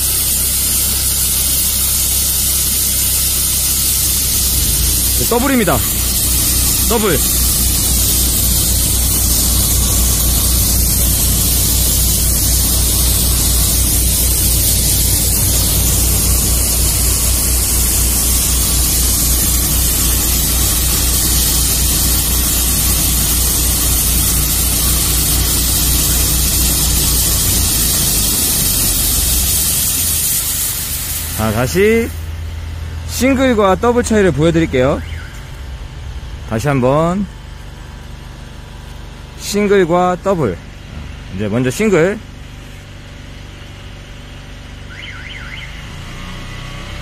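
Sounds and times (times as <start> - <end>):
high-pressure water jet hissing: 0.0 - 42.9, 44.9 - 47.0
engines droning low: 0.0 - 47.0.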